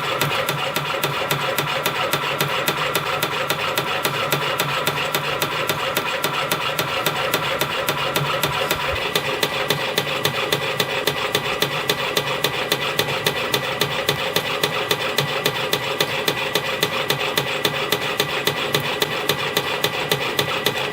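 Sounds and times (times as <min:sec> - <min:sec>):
mechanical hum: 0:00.0 - 0:20.9.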